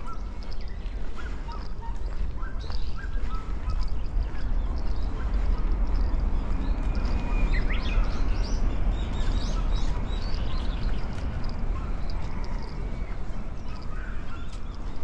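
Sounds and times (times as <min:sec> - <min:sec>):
small birds chirping: 0:00.0 - 0:15.0
wind rumble on microphone: 0:00.0 - 0:15.0.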